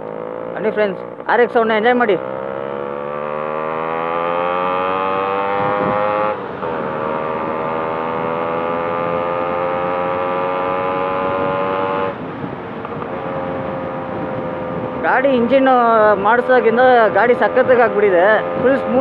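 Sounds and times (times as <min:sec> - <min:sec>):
two-stroke motorcycle engine accelerating: 0:00.0 - 0:19.0.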